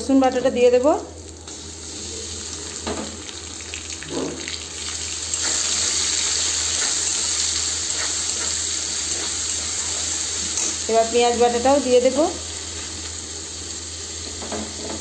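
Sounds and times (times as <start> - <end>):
food sizzling in hot oil: 0.2 - 15.0.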